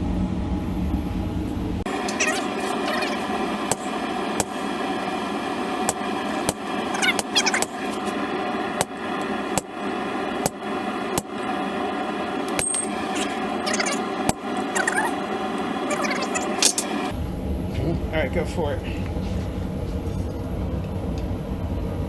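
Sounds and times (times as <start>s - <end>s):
workshop hum: 0.0s - 22.0s.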